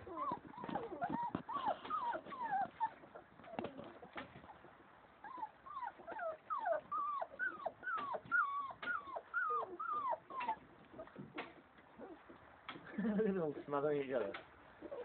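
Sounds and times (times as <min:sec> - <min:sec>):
puppies whining: 0:00.0 - 0:12.4, 0:14.8 - 0:15.0.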